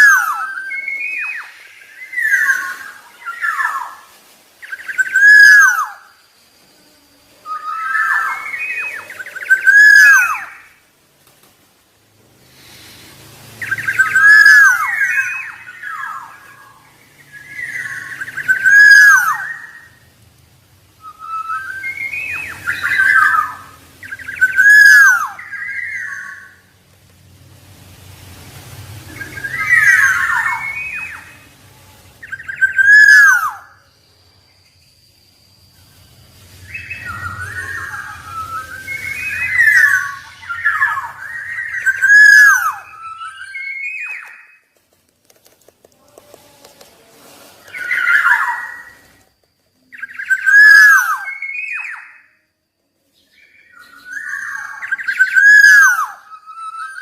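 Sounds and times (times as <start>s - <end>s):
bird whistled calls: 0.0s - 10.9s, 12.5s - 20.2s, 20.8s - 26.8s, 29.0s - 44.8s, 47.6s - 57.0s.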